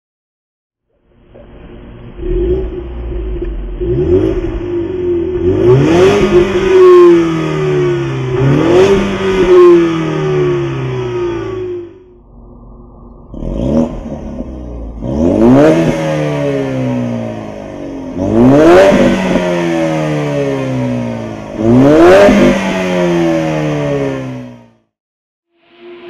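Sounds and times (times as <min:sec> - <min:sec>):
car engine revving: 0:01.1 - 0:24.8.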